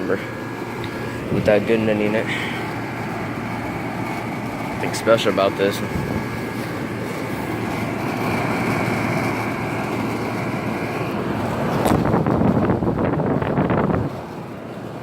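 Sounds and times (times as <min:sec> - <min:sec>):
air conditioner fan and compressor: 0:00.0 - 0:15.0.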